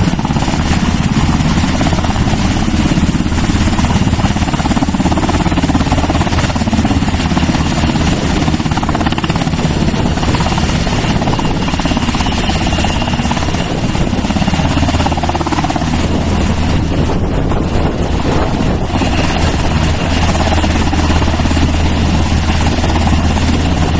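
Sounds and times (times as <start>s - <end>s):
helicopter rotor and turbine: 0.0s - 23.9s.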